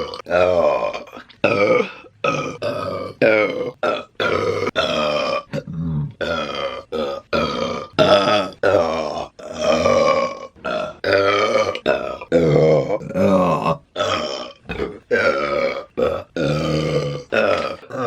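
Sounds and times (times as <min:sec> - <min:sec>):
woman burping: 0:00.0 - 0:18.0.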